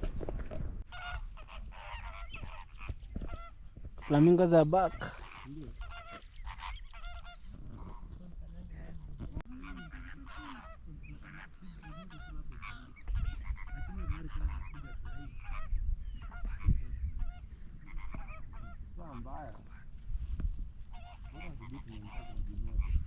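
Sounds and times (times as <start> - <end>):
flamingos honking: 0.9 - 23.0.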